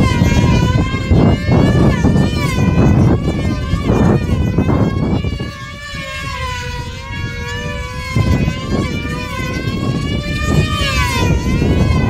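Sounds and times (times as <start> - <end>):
model airplane engines whining: 0.0 - 12.0.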